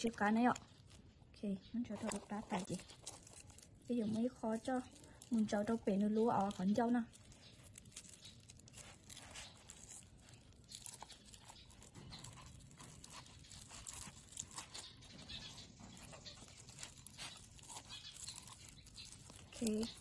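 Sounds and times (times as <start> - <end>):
soft crackles and ticks of handling: 0.0 - 20.0.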